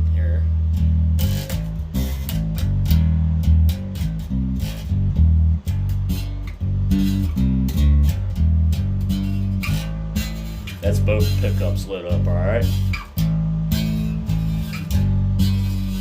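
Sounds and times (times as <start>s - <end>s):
electric bass plucked notes: 0.0s - 16.0s.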